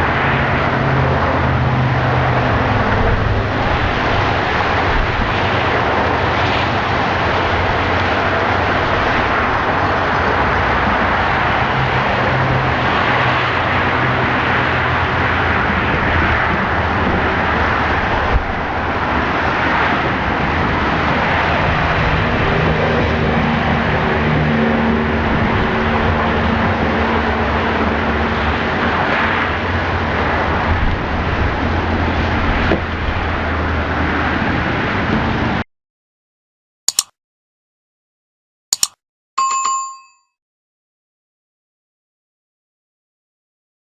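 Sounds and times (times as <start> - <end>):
vehicle engine hum: 0.0 - 35.6.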